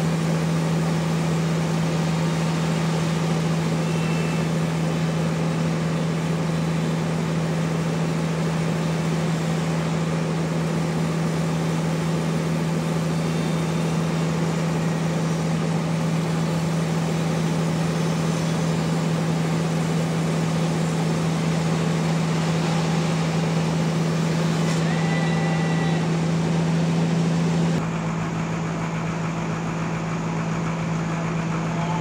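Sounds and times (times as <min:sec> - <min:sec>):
sawmill machinery humming: 0:00.0 - 0:32.0.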